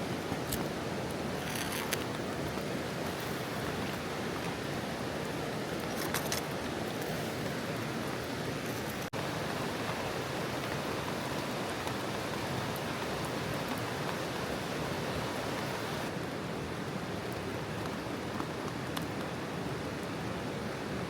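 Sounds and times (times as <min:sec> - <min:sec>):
falling rain: 0:00.0 - 0:21.0
mountain stream rushing: 0:00.0 - 0:21.0.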